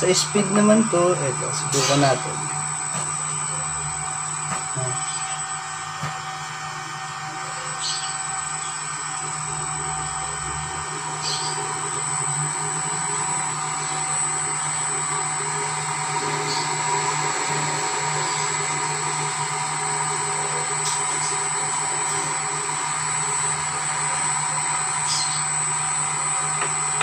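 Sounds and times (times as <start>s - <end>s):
electric motor whine: 0.0s - 27.0s.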